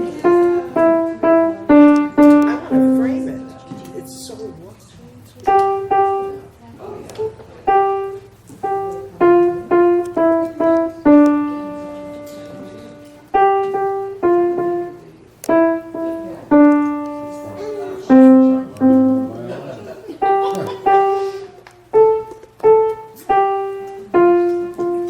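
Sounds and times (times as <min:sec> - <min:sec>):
piano melody single notes: 0:00.0 - 0:04.8, 0:05.4 - 0:19.6, 0:20.2 - 0:25.0.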